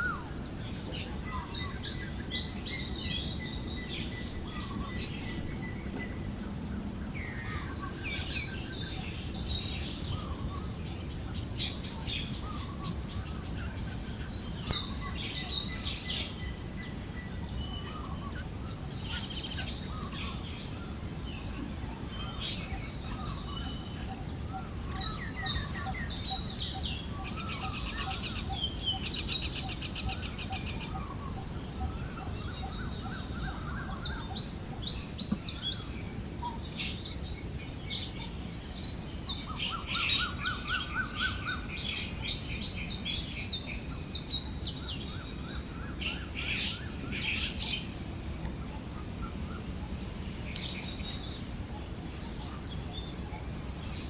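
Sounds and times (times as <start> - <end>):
forest birds chirping and trilling: 0.0 - 54.0
high insect drone: 0.0 - 54.0
soft low breeze: 0.0 - 54.0.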